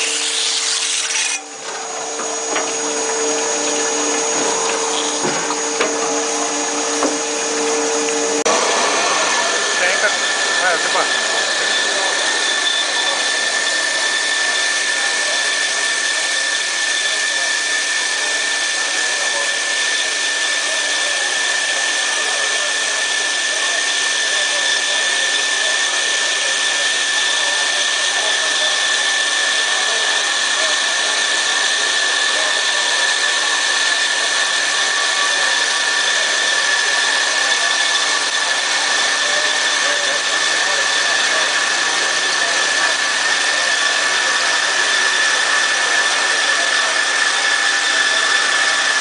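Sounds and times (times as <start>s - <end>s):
band saw hiss and whine: 0.0s - 49.0s.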